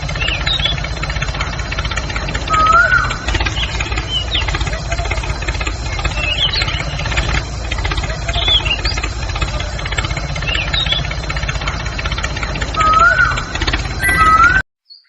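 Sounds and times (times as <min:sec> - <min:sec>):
motor running with low pulsing: 0:00.0 - 0:14.6
birds chirping: 0:00.0 - 0:15.0.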